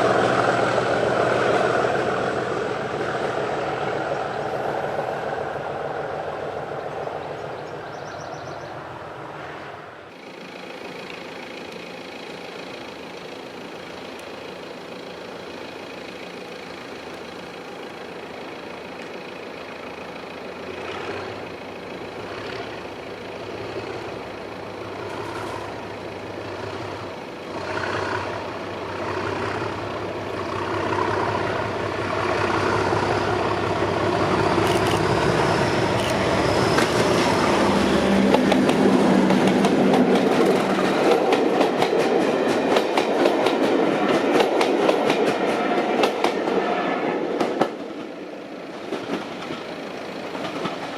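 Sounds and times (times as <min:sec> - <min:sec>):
diesel locomotive approaching: 0:00.0 - 0:50.9.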